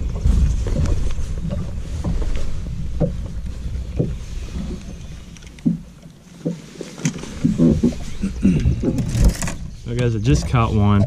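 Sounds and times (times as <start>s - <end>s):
wind rumbling on microphone: 0.0s - 5.8s, 7.0s - 11.0s.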